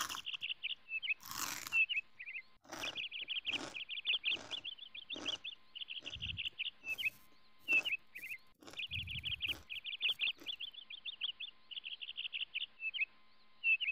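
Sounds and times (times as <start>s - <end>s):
small bird chirping: 0.0s - 13.9s.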